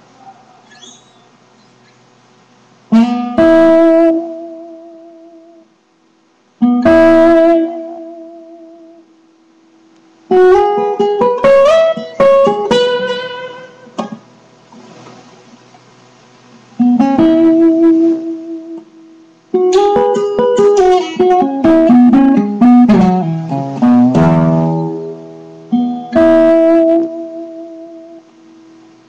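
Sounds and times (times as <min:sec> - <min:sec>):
acoustic guitar: 0:00.0 - 0:05.8, 0:06.6 - 0:09.2, 0:10.2 - 0:29.0.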